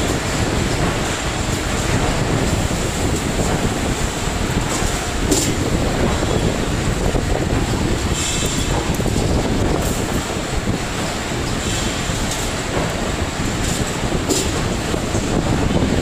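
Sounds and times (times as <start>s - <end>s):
wire-bending machine running: 0.0s - 16.0s.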